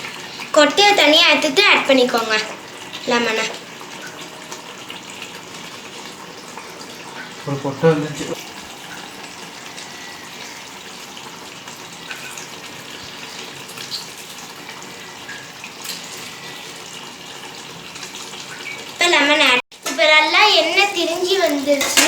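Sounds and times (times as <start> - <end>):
masala sizzling in oil: 0.0 - 22.0.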